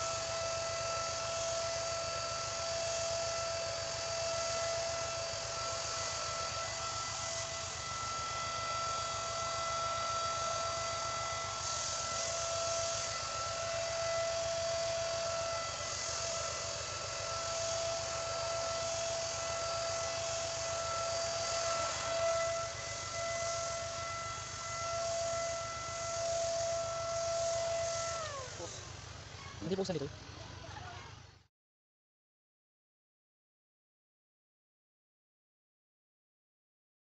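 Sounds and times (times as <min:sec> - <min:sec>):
paint spray gun hissing: 0:00.0 - 0:09.4, 0:10.0 - 0:31.0
air compressor running: 0:00.0 - 0:30.8.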